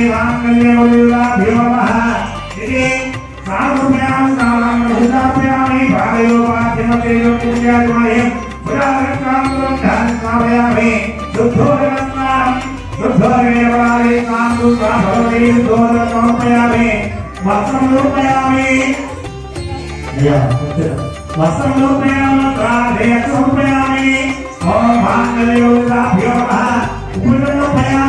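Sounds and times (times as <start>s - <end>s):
devotional music accompaniment: 0.0s - 28.0s.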